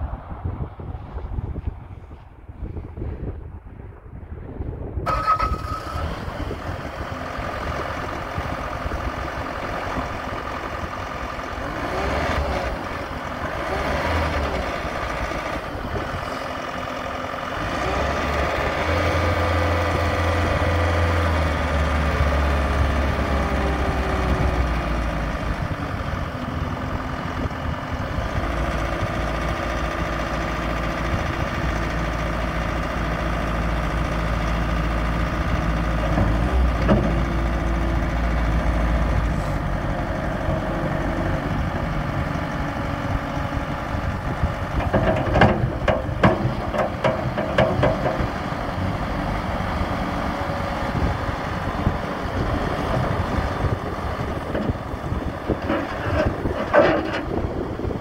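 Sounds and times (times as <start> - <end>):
diesel engine idling: 5.1 - 58.0.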